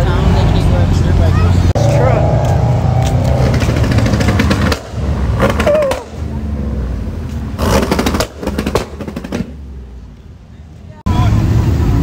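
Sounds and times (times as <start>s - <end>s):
crackly engine noise: 0.0s - 12.0s
vehicle engines rumbling: 0.0s - 12.0s.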